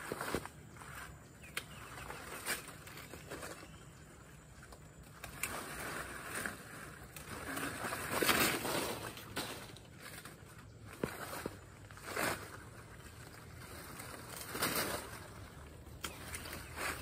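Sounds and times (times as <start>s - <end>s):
leaves and branches rustling: 0.0s - 17.0s.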